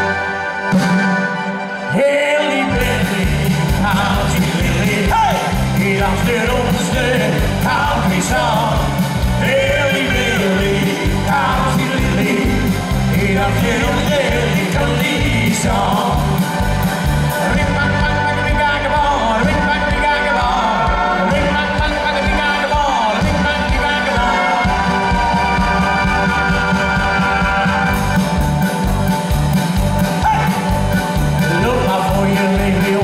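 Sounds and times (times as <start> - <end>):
accordion chord: 0.0 - 19.0, 19.6 - 33.0
person singing: 1.8 - 28.1, 30.2 - 33.0
drums and bass beat: 2.7 - 33.0.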